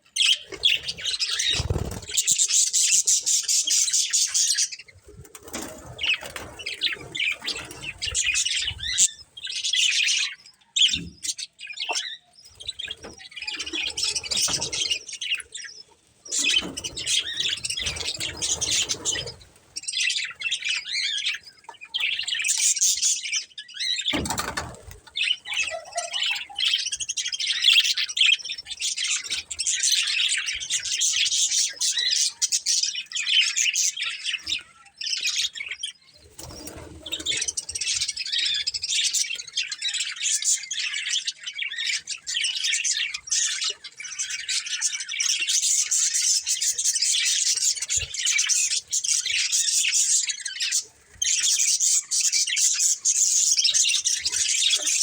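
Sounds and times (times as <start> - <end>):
budgerigars chattering and warbling: 0.1 - 5.0, 5.6 - 55.0.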